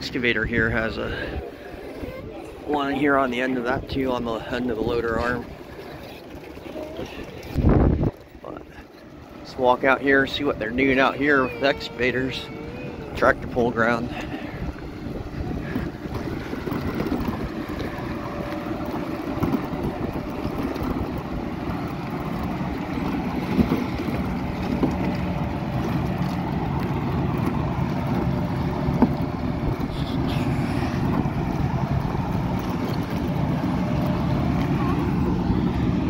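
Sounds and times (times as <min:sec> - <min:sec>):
diesel excavator engines droning: 0:00.0 - 0:36.0
wind buffeting microphone: 0:00.0 - 0:36.0.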